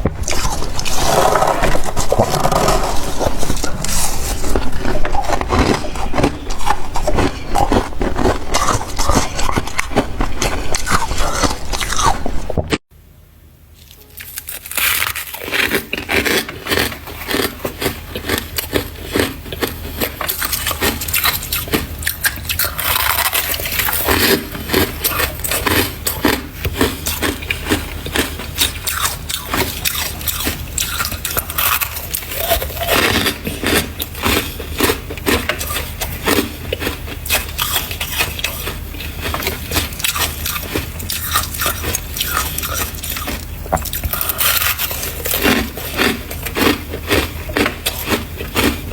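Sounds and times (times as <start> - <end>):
frost crunching between teeth: 0.0 - 12.8, 13.8 - 48.9
low hum: 0.0 - 48.9.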